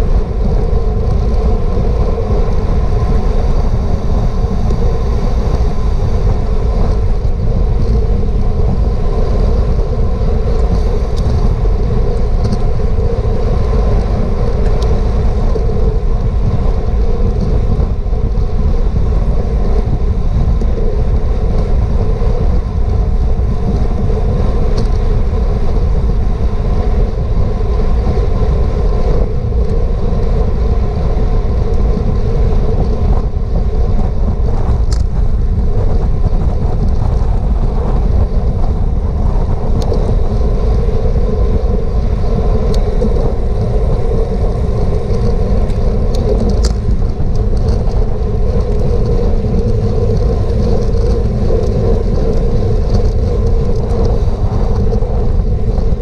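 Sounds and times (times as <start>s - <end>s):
bicycle hum: 0.0s - 56.0s
wind rushing over microphone: 0.0s - 56.0s.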